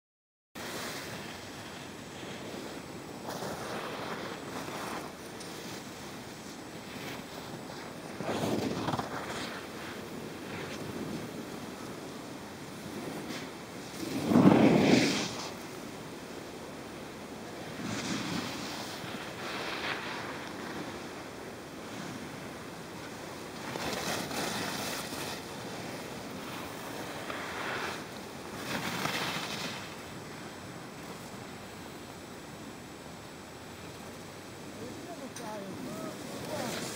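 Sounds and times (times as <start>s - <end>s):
wind blowing on microphone: 0.6s - 32.8s, 33.8s - 36.9s.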